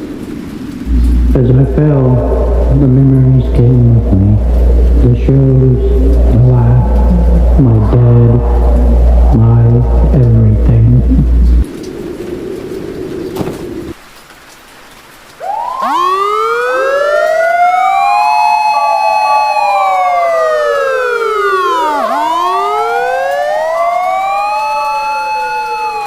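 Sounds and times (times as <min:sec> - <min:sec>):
emergency sirens wailing: 0:00.0 - 0:11.7, 0:15.4 - 0:26.0
low hum: 0:00.0 - 0:14.0, 0:15.4 - 0:26.0.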